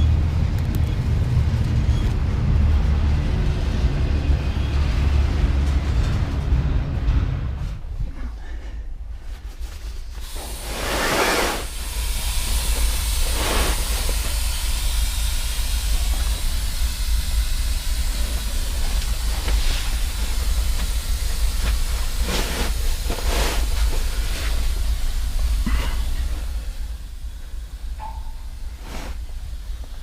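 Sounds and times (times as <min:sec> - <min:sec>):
freight train rumble: 0:00.0 - 0:30.0
train hissing: 0:02.5 - 0:30.0.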